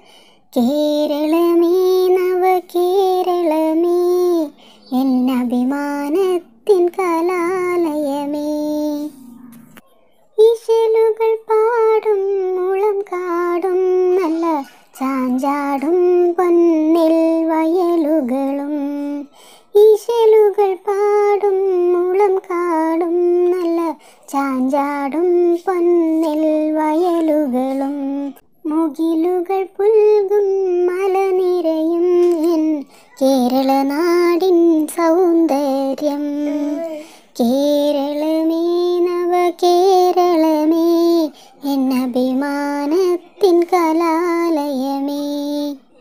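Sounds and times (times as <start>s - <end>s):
child singing unaccompanied: 0.0s - 46.0s.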